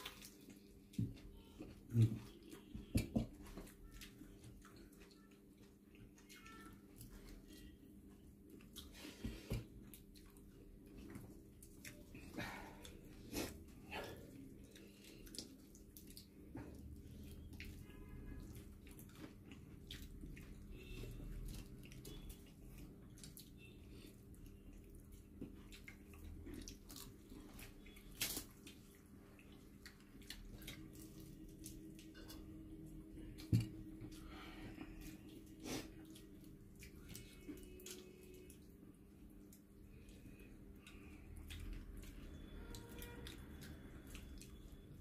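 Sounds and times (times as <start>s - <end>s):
chewing: 0.0s - 2.8s, 3.4s - 45.0s.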